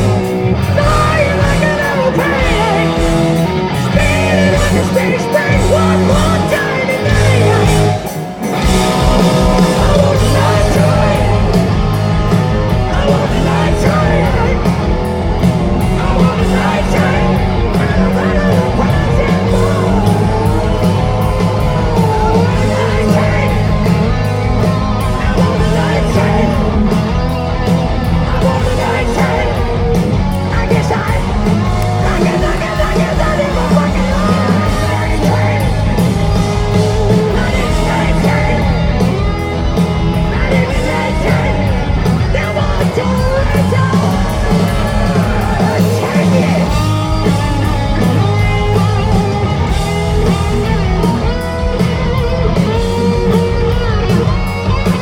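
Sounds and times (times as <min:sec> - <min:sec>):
hard rock band playing live: 0:00.0 - 0:55.0
person singing: 0:00.0 - 0:55.0.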